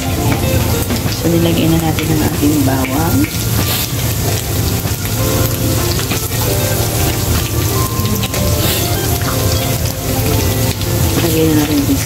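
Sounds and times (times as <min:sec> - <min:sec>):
meat and garlic sizzling in oil: 0:00.0 - 0:12.0.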